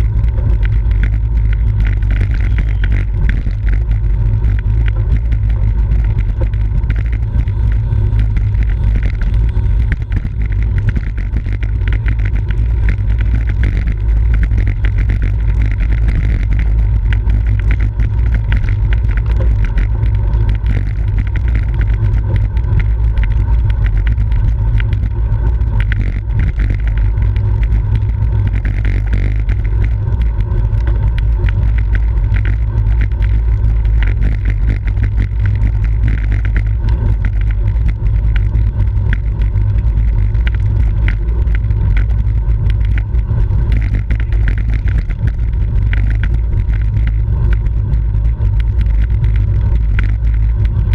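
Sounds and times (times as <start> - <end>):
heavy wind rumble on microphone: 0.0 - 50.9
small clicks and rattles: 0.0 - 50.9.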